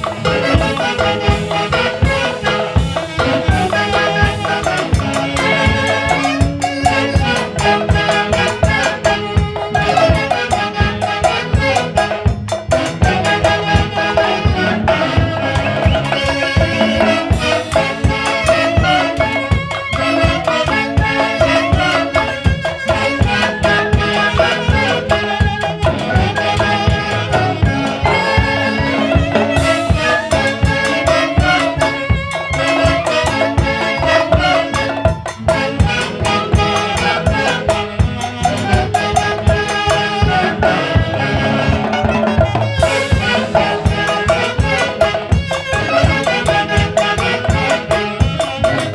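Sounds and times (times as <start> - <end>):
clarinets and brass melody: 0.0 - 48.9
drum and percussion beat: 0.0 - 48.9.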